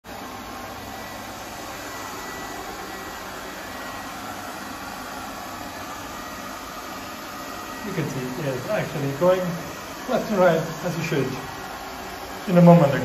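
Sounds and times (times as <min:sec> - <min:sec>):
robot vacuum cleaner whirring: 0:00.1 - 0:13.0.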